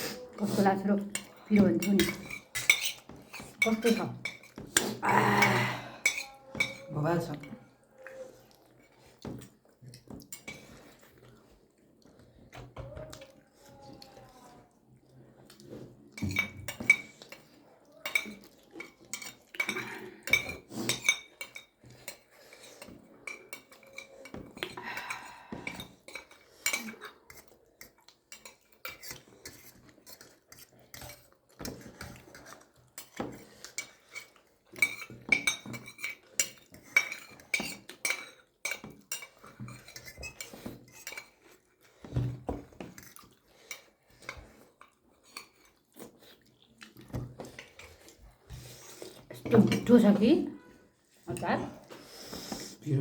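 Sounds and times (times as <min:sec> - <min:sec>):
cutlery clinking against plates: 0:00.2 - 0:11.6, 0:15.4 - 0:50.6.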